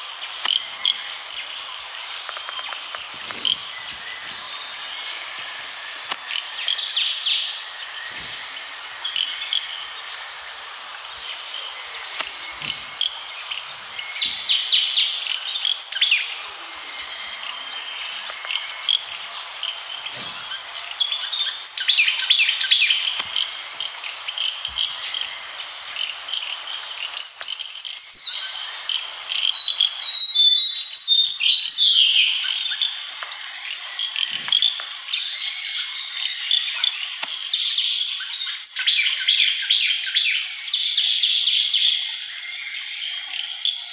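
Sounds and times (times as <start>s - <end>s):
background hiss: 0.0s - 43.9s
birds calling and singing: 0.0s - 43.9s.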